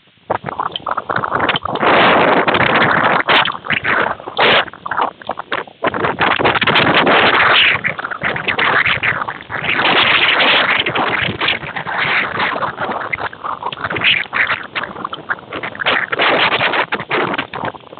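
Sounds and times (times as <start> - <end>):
heavy rain with hail: 0.1 - 17.9.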